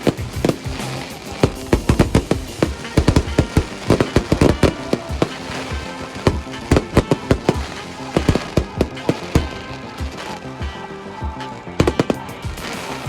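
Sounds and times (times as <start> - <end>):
fireworks bursting: 0.0 - 13.0
music playing: 0.0 - 13.0.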